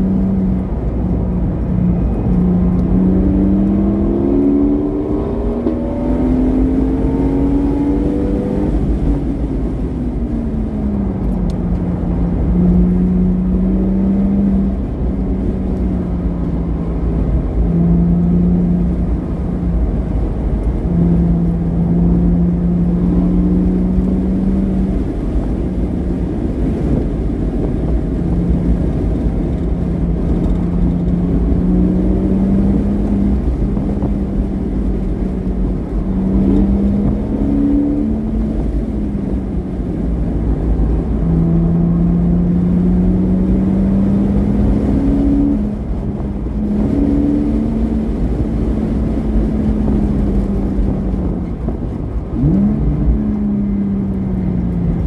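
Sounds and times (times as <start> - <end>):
heavy low rumble: 0.0 - 55.0
sports car engine revving: 0.0 - 55.0.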